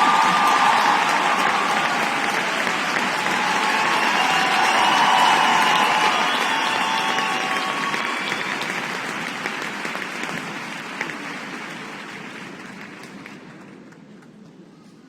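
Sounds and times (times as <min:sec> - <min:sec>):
large audience applauding: 0:00.0 - 0:14.3.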